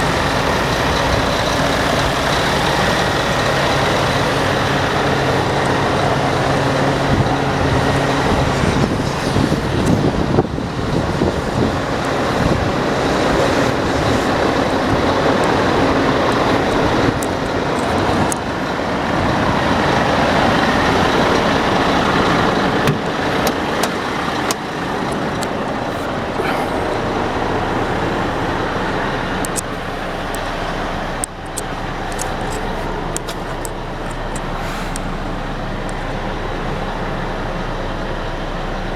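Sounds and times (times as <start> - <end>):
diesel engine humming: 0.0 - 38.9
rushing vehicle noise: 0.0 - 38.9.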